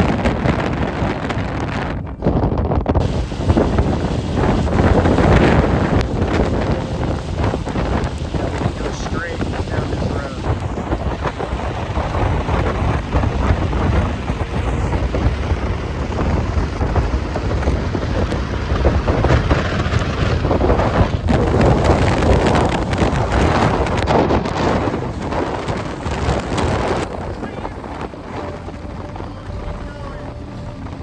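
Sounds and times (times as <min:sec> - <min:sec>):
storm wind gusting: 0:00.0 - 0:31.0
rain: 0:03.0 - 0:31.0.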